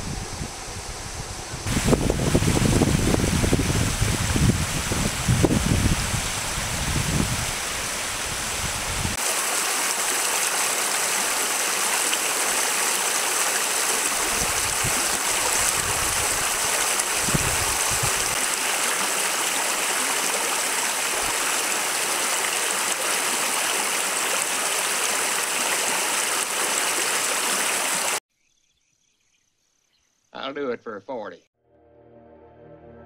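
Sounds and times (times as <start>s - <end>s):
creek rushing over stones: 1.6s - 28.2s.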